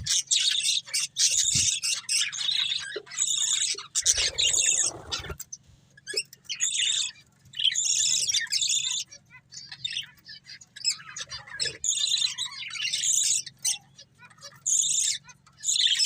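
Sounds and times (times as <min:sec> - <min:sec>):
budgerigars chirping: 0:00.0 - 0:05.4, 0:06.1 - 0:16.0.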